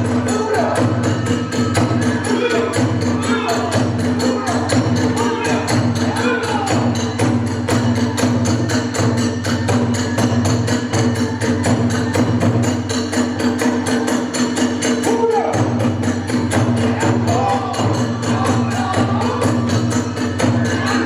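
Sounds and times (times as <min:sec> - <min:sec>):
drums beating: 0:00.0 - 0:21.0.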